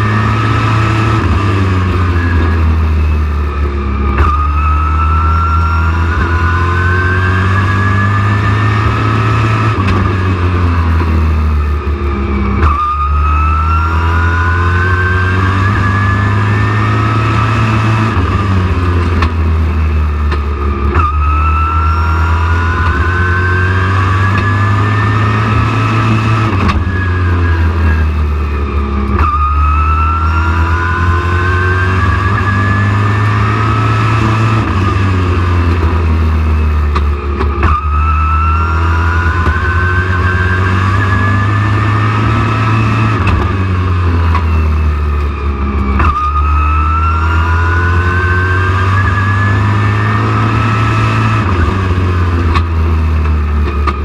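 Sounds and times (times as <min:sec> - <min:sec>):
race truck engine revving: 0:00.0 - 0:54.0.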